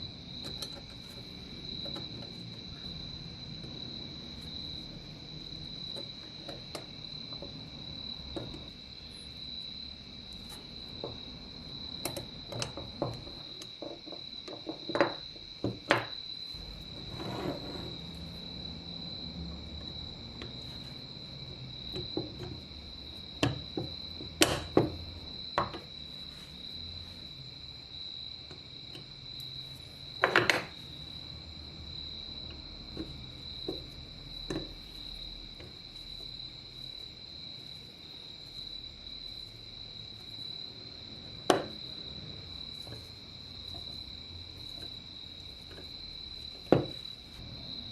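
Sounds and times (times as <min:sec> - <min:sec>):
cricket trill: 0:00.0 - 0:47.9.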